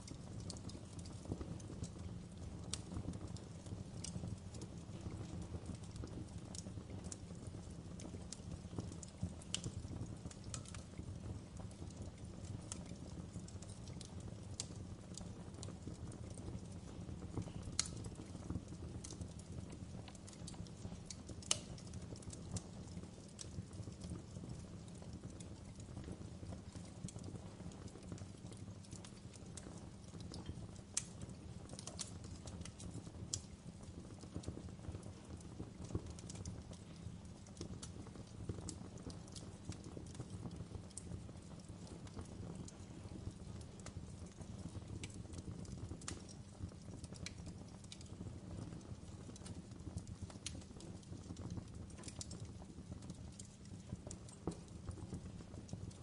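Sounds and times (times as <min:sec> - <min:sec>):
log fire crackling: 0:00.0 - 0:56.0.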